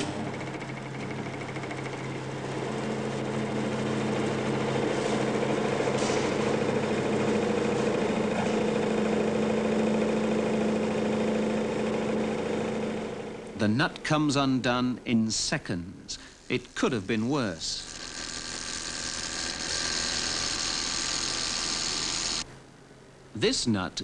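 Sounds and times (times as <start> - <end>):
vibration rig mechanical hum: 0.0 - 24.0.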